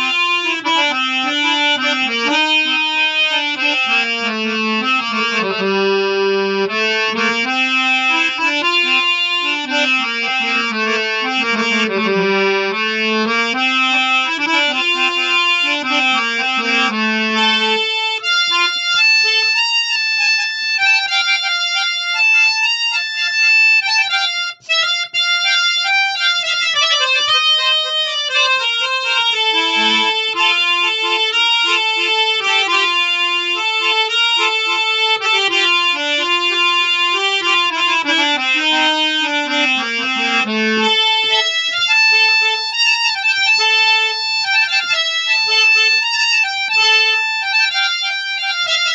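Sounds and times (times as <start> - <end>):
harmonium melody: 0.0 - 48.9.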